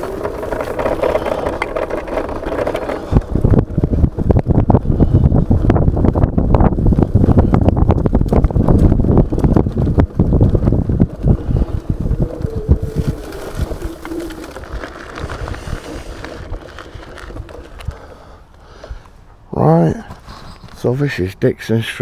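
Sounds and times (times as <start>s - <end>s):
scooter knocking and rattling: 0.0s - 18.3s
wind buffeting microphone: 0.0s - 20.8s.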